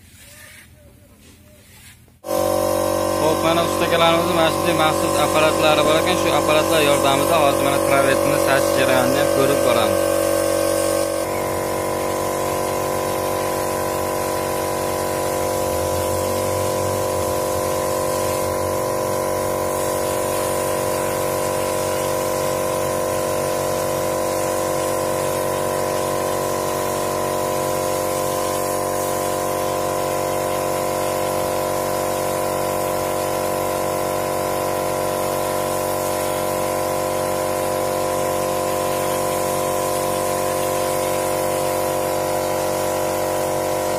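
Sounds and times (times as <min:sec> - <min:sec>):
air compressor humming: 0:02.2 - 0:43.9
spray gun hissing: 0:02.2 - 0:43.9.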